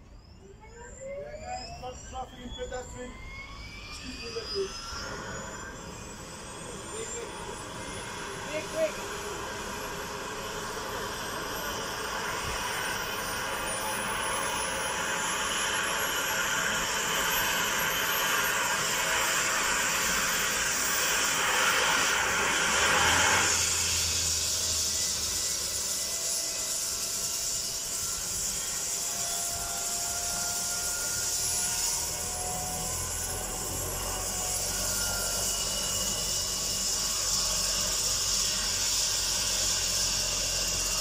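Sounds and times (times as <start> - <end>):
helicopter turbine whine and rotor: 0.0 - 41.0.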